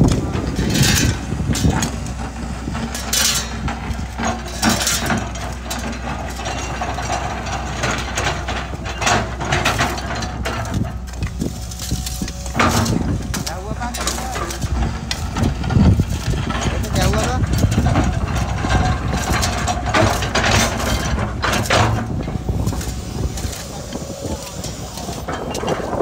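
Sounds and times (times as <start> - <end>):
bucket scraping earth and stones: 0.0 - 26.0
excavator diesel engine running: 0.0 - 26.0.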